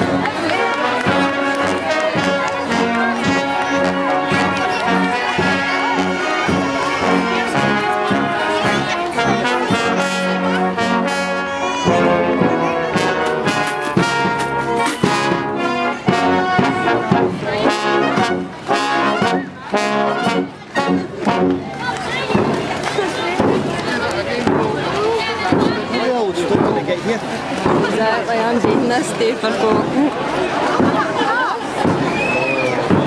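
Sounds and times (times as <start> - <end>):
marching brass band playing: 0.0 - 33.0.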